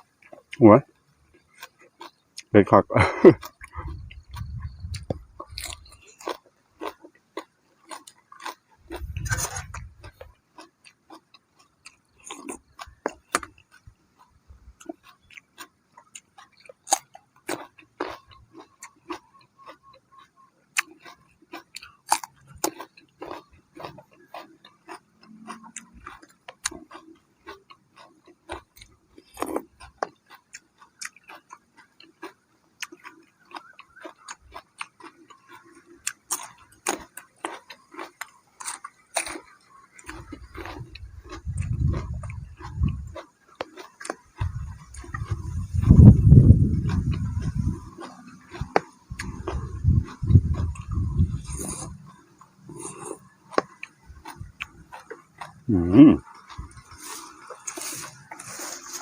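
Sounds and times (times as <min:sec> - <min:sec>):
chewing crisp food: 0:00.0 - 0:59.0.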